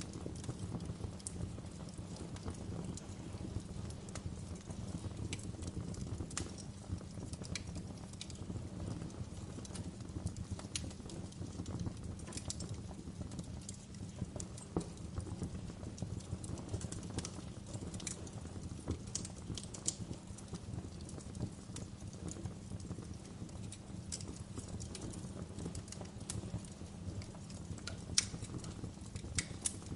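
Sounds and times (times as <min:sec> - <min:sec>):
flames rumbling: 0:00.0 - 0:29.9
wood fire popping and snapping: 0:00.0 - 0:29.9.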